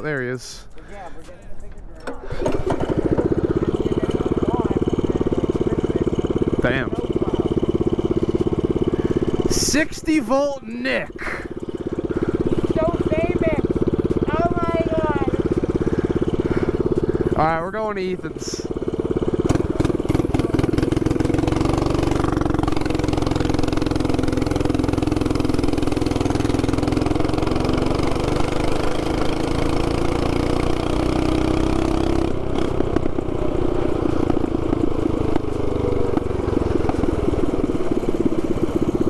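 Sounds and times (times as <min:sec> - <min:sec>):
mini bike engine under throttle: 0:02.1 - 0:09.9, 0:11.2 - 0:39.0.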